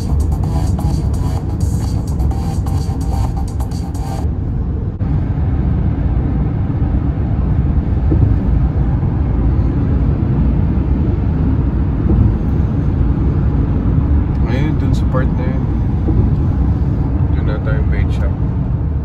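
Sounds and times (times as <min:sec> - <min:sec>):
car road noise at highway speed: 0:00.0 - 0:19.0.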